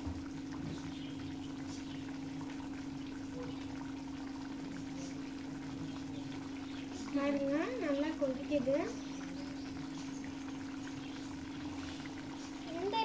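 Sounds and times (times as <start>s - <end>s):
bubbles popping in simmering gravy: 0.0s - 13.0s
steady low hum: 0.0s - 13.0s.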